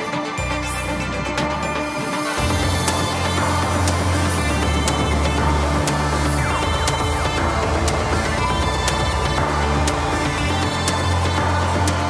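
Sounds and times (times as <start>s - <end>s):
deep bass music: 0.0s - 12.0s.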